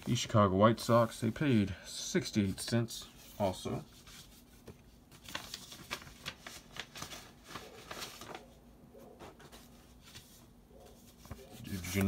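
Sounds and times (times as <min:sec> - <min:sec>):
paper rustling and crinkling: 0:00.0 - 0:01.4, 0:02.4 - 0:12.0.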